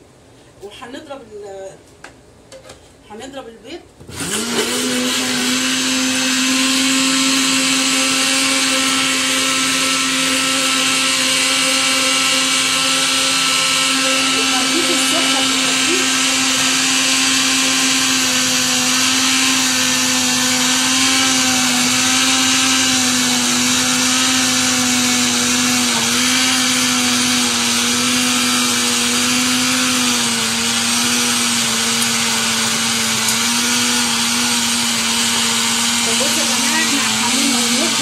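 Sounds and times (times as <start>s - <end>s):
electric blender running: 4.1s - 38.0s.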